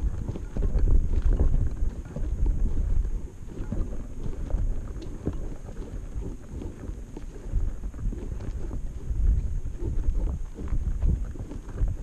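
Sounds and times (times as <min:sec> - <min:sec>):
footsteps crunching on gravel: 0:00.0 - 0:12.0
wind buffeting microphone: 0:00.0 - 0:12.0.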